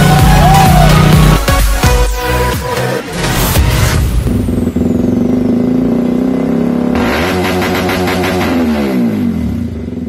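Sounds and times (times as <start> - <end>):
motorcycle engine revving: 0.0 - 1.6, 3.0 - 10.0.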